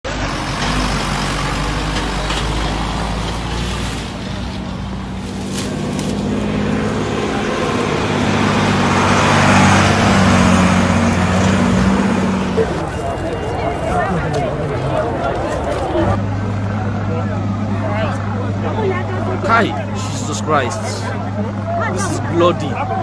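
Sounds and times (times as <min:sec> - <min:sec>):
vehicle engine humming: 0:00.1 - 0:23.0.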